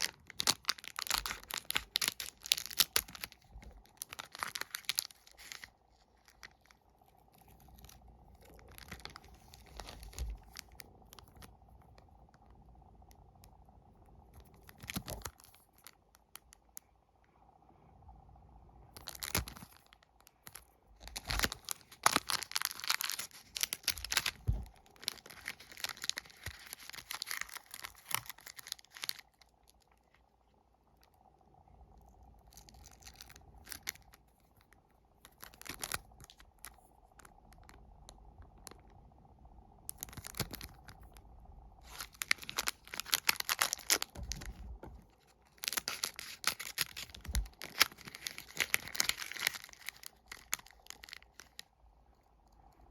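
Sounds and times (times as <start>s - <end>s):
plastic wrappers crackling and tearing: 0.0s - 11.6s, 14.3s - 16.6s, 19.0s - 30.2s, 32.4s - 38.9s, 39.9s - 51.7s.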